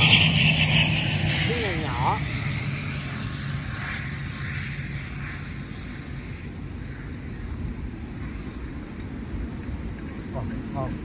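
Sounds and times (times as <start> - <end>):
jet airliner passing over: 0.0 - 11.0.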